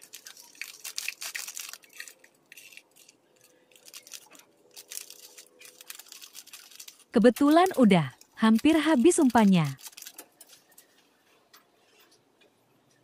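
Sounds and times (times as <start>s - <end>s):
plastic packet crinkling: 0.0s - 10.8s.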